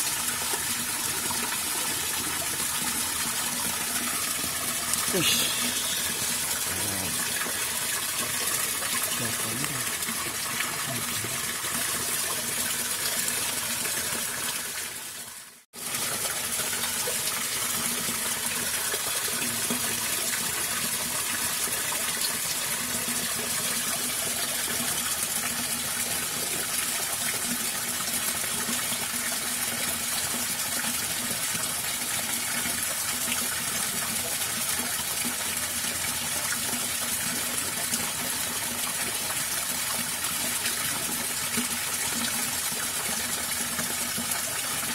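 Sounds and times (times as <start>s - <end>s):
water gushing through culvert: 0.0s - 44.9s.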